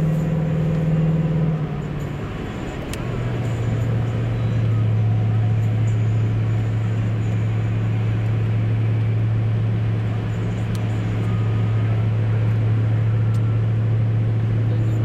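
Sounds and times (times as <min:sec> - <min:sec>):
car interior engine and road noise: 0:00.0 - 0:15.0.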